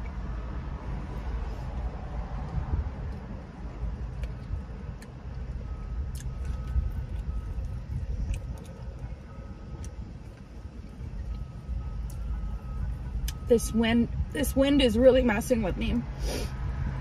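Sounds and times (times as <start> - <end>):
wind buffeting microphone: 0.1 - 17.0.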